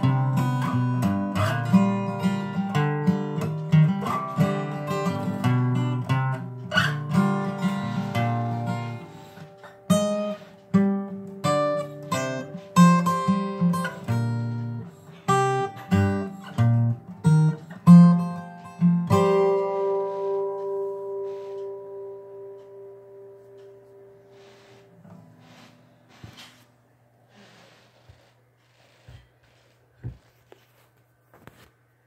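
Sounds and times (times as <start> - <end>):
acoustic guitar chords: 0.0 - 26.4.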